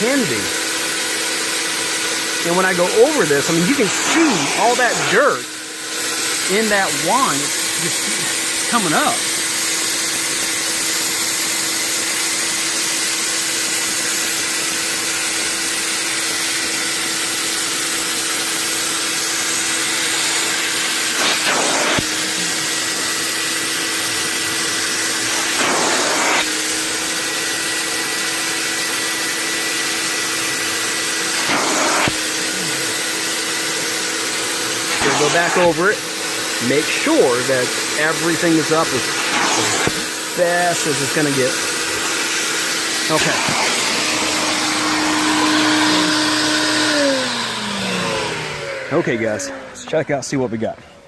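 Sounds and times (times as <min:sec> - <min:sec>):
carpet extractor running: 0:00.0 - 0:51.0.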